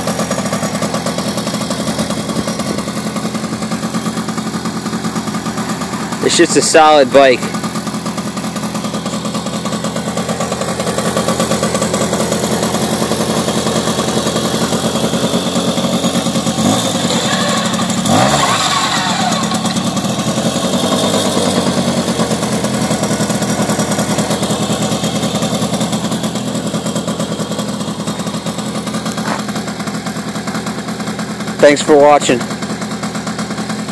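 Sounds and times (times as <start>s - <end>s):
moped engine idling: 0.0s - 33.9s.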